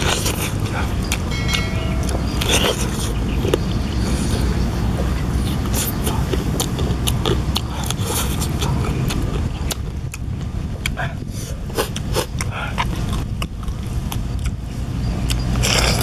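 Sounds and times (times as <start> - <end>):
low rumble: 0.0 - 15.4
person chewing: 0.0 - 16.0.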